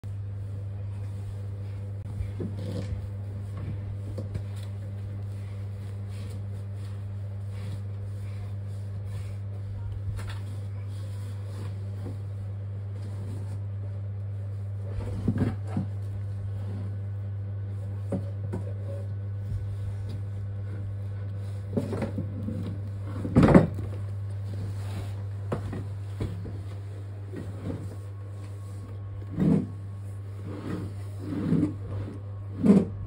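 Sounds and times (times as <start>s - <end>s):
low hum: 0.0s - 33.0s.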